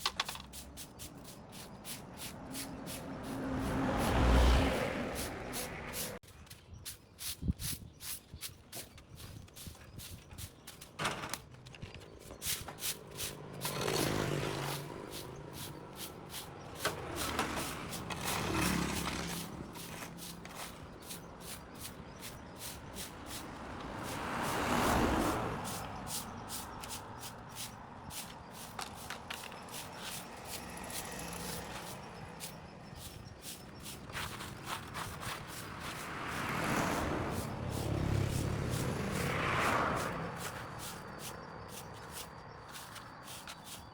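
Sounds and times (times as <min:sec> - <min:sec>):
vehicles passing: 0:00.0 - 0:06.2, 0:08.9 - 0:43.9.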